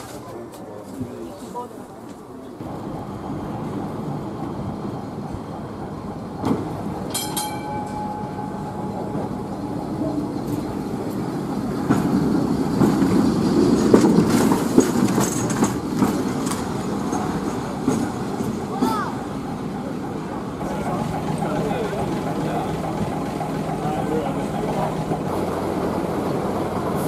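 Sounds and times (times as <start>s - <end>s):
tram wheels clicking over rail joints: 0.0s - 27.0s
tram bell ringing: 2.6s - 27.0s.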